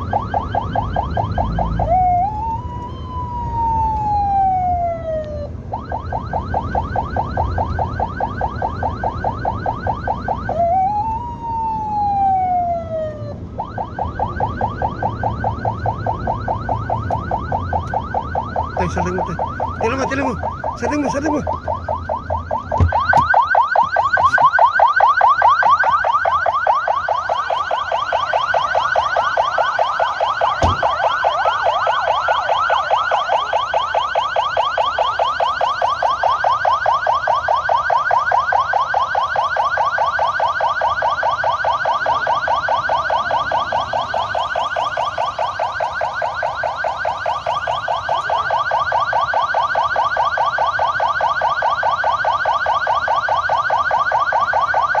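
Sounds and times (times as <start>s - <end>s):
police siren warbling: 0.0s - 55.0s.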